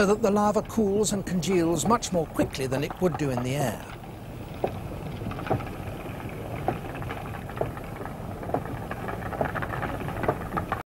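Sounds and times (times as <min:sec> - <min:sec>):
low underwater rumble: 0:00.0 - 0:10.8
sharp cracks and pops: 0:00.0 - 0:10.8.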